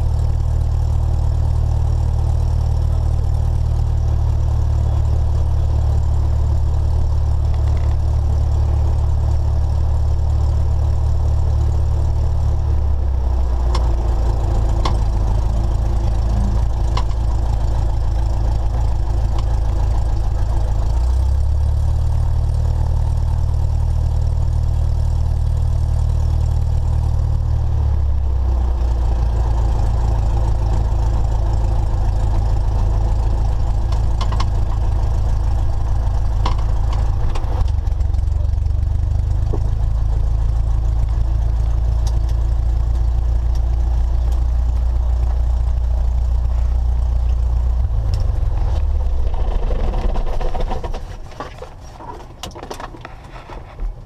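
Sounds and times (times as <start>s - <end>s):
propeller aircraft engine: 0.0s - 54.0s.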